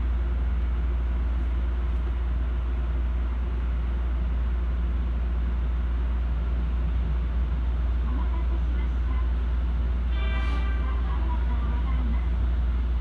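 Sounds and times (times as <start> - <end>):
train cab hum and rumble: 0.0 - 13.0.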